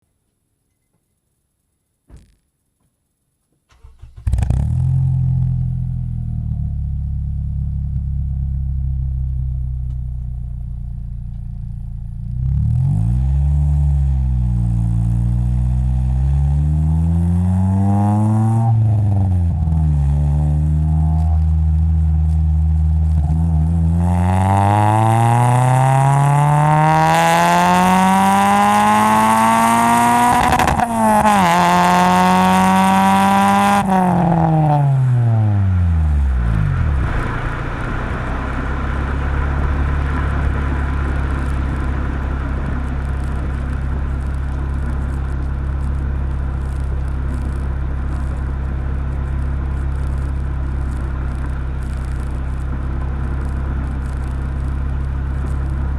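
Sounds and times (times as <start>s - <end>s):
car engine accelerating hard: 3.7s - 55.9s.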